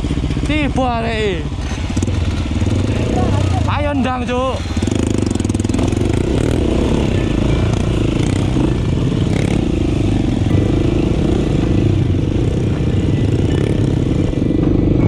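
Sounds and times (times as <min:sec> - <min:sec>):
dirt bike engine under throttle: 0:00.0 - 0:15.0.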